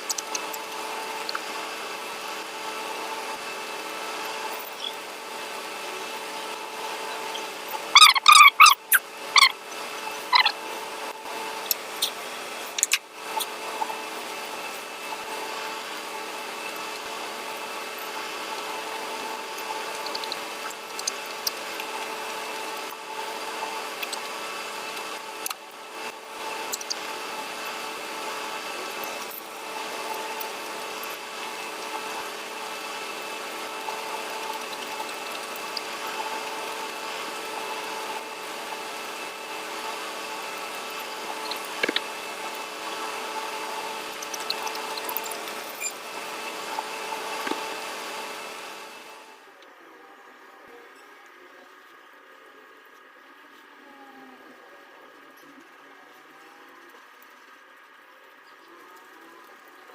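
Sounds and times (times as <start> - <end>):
mechanical background hum: 0.0 - 59.9.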